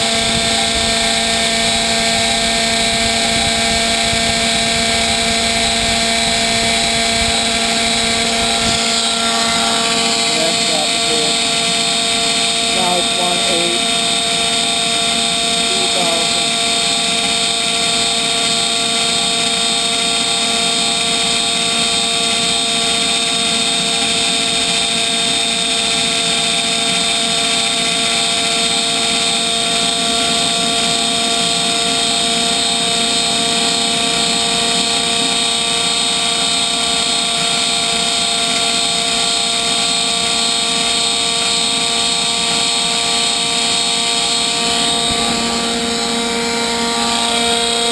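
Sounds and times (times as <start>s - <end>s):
gas turbine high whine: 0.0s - 47.9s.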